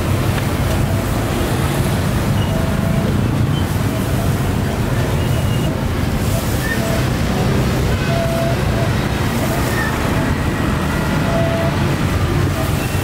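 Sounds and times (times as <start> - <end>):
low rumble of street noise: 0.0 - 13.0.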